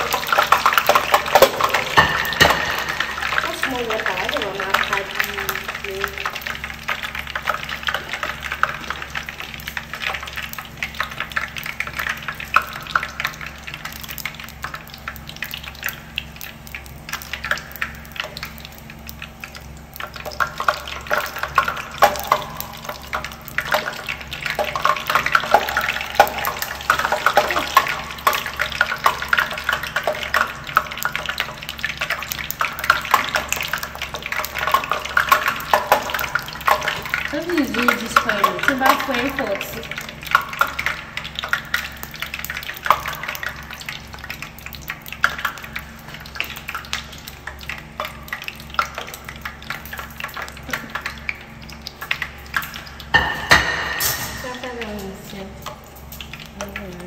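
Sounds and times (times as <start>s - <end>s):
crackers sizzling in hot oil: 0.0s - 57.0s.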